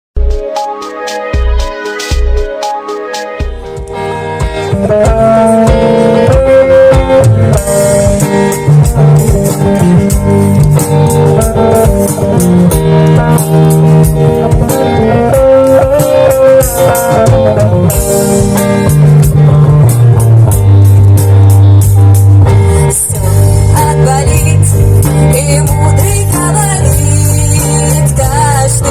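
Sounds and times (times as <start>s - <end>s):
bass guitar: 0.2s - 28.9s
drum kit steady beat: 0.2s - 28.9s
electric guitar: 0.2s - 28.9s.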